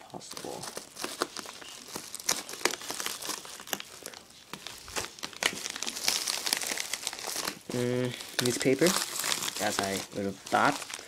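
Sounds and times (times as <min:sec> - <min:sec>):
plastic mailer crinkling: 0:00.1 - 0:11.0.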